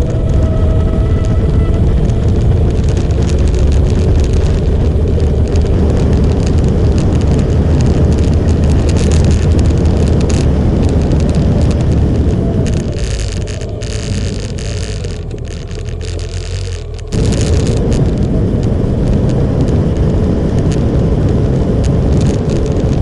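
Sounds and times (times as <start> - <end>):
motorcycle engine and road rumble: 0.0 - 23.0
wind noise on microphone: 0.0 - 23.0.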